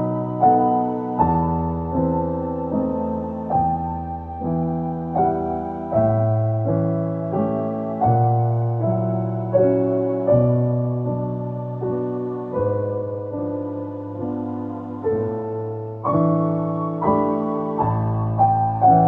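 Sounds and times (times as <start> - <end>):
slow solo piano: 0.0 - 19.0.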